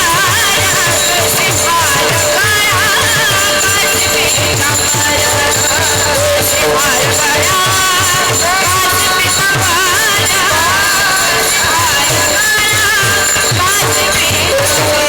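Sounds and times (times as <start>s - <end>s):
jingling percussion: 0.0s - 15.0s
woman singing: 0.0s - 15.0s.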